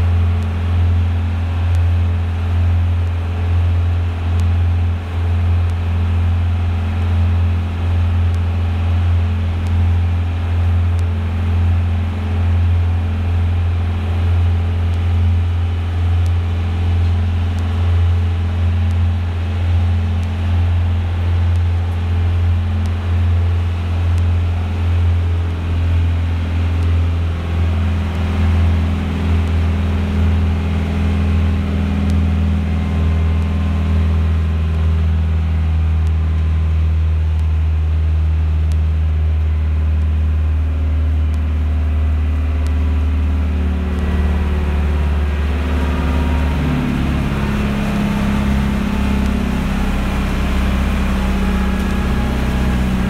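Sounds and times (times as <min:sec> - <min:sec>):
ferry engine droning: 0:00.0 - 0:53.0
water rushing along hull: 0:00.0 - 0:53.0.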